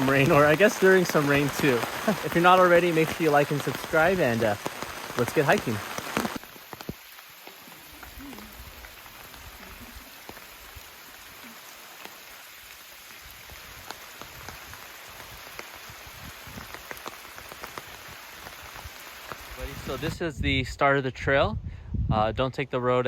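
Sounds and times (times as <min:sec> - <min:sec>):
rain pattering: 0:00.0 - 0:20.2.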